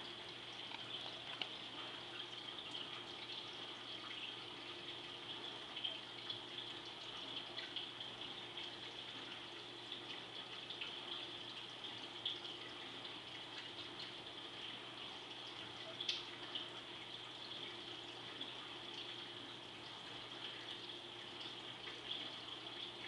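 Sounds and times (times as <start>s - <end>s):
faint steady hum: 0.0s - 23.0s
water trickling with small pops: 0.0s - 23.0s.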